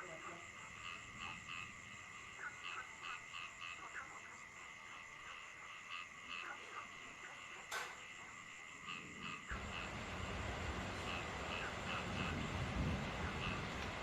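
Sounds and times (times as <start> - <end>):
faint rain hiss: 0.0 - 14.0
frogs croaking: 0.0 - 14.0.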